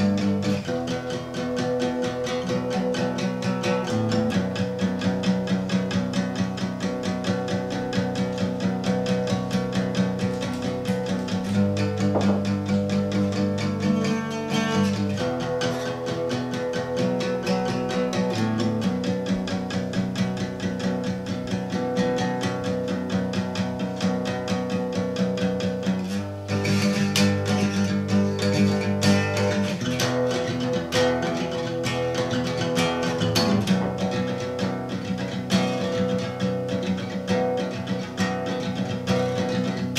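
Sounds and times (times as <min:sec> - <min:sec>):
fingerpicked acoustic guitar: 0:00.0 - 0:39.9.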